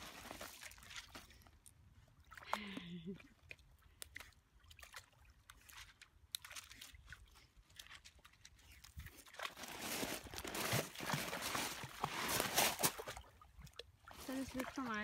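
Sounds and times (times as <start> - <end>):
small splashes and ticks: 0.5 - 9.8, 10.8 - 15.0.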